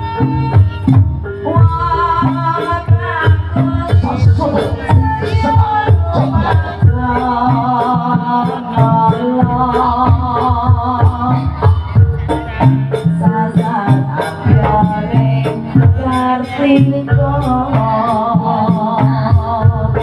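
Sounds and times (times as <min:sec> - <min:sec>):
drums and struck percussion: 0:00.0 - 0:20.0.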